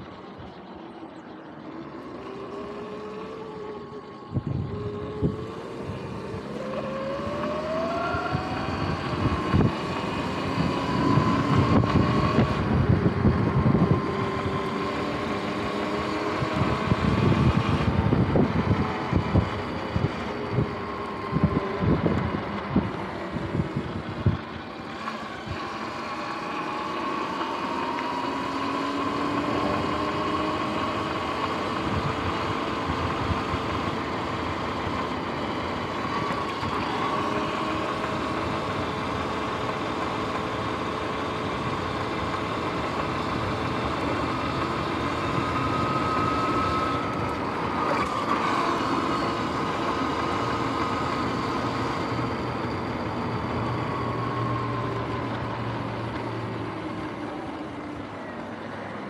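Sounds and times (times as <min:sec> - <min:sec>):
wind and tyre noise: 0:00.0 - 0:59.0
electric motor whining: 0:02.1 - 0:57.7.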